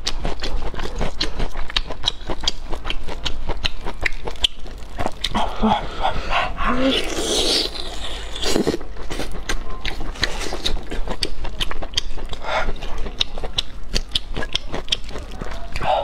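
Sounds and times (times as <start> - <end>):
person chewing meat: 0.0 - 16.0
wet mouth clicks and smacks: 0.0 - 16.0.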